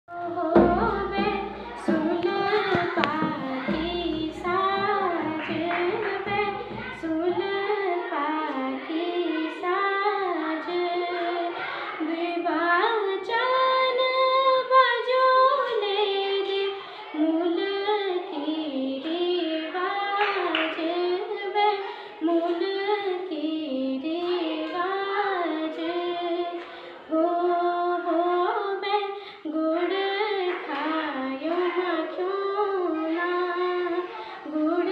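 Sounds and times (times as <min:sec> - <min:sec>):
girl singing: 0:00.1 - 0:34.9.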